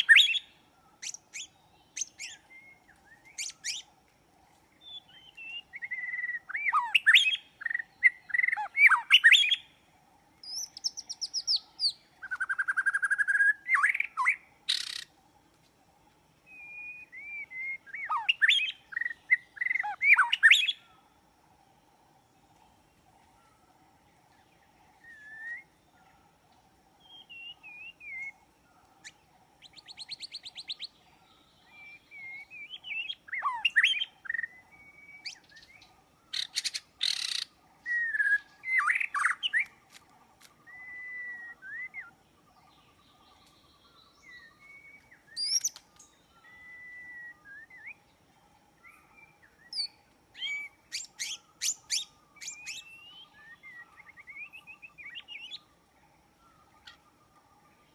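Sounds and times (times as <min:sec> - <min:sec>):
birds chirping and trilling: 0:00.0 - 0:57.9
faint steady drone: 0:00.0 - 0:57.9.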